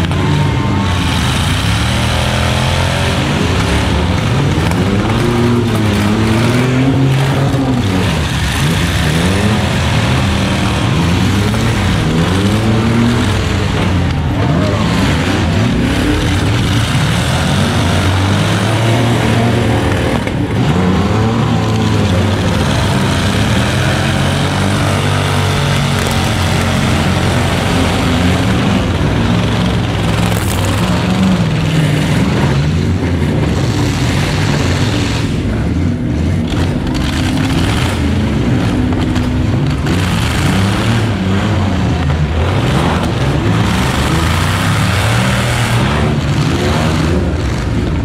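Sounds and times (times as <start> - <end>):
truck engines revving: 0.0 - 48.0.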